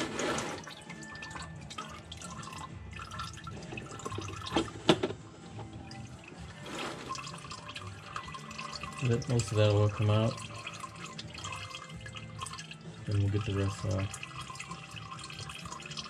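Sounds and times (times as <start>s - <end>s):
oil dripping into a pan: 0.8s - 4.7s, 5.7s - 16.0s.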